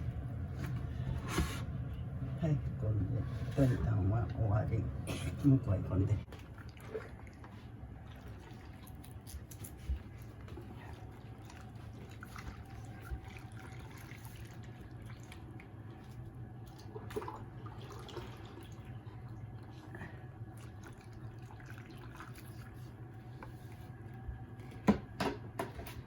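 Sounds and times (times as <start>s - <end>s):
low hum: 0.0s - 24.8s.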